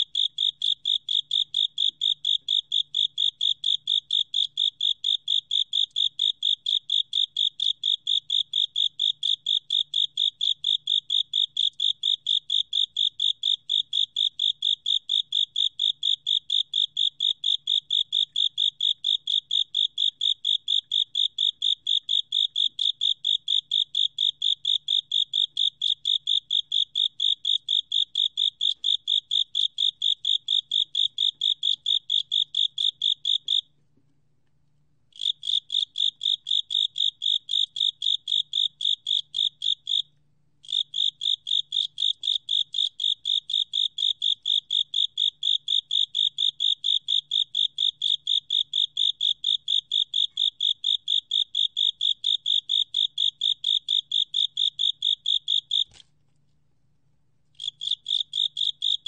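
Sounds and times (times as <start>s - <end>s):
cricket chirping: 0.0s - 33.7s, 35.2s - 56.0s, 57.6s - 59.0s.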